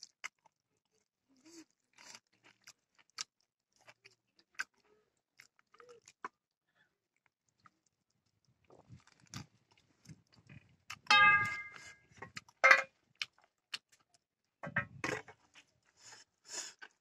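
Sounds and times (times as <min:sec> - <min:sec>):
man chewing with mouth smacks: 0:00.0 - 0:11.1, 0:11.8 - 0:14.3, 0:15.1 - 0:17.0.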